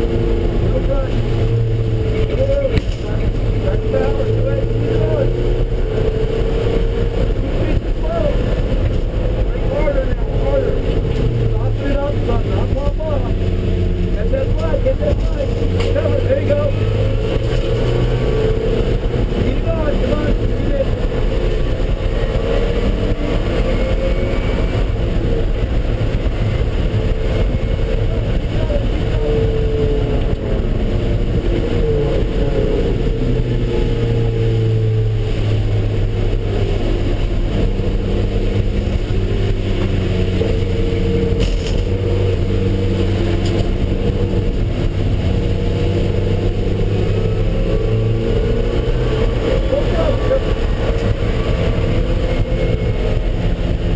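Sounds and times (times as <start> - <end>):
car engine running hard: 0.0 - 53.9
road and wind noise: 0.0 - 53.9.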